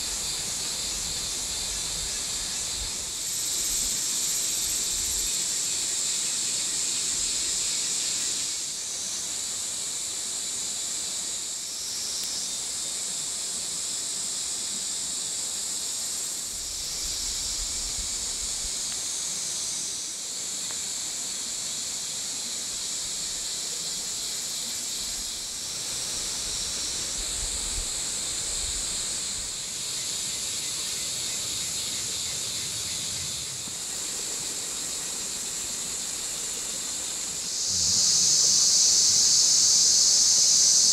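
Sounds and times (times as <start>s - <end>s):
forest insects chorus: 0.0s - 40.9s.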